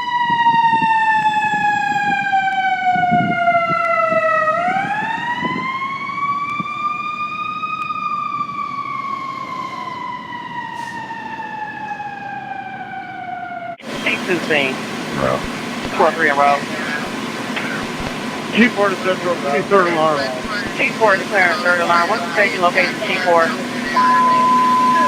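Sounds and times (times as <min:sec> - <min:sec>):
fire engine siren wailing: 0:00.0 - 0:25.0.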